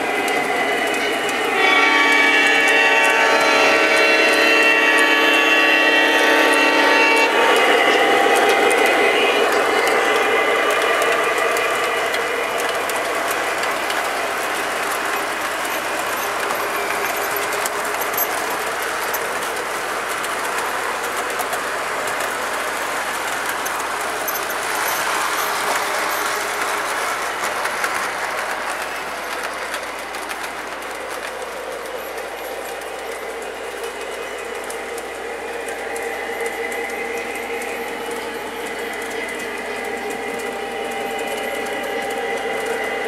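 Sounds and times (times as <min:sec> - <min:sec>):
model train running on track: 0:00.0 - 0:43.0.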